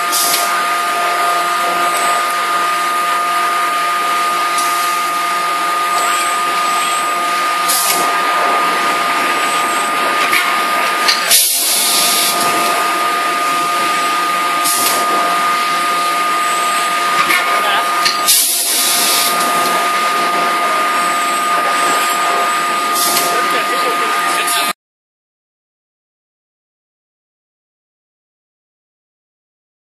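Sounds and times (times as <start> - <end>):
machinery running with whining tones: 0.0 - 24.8.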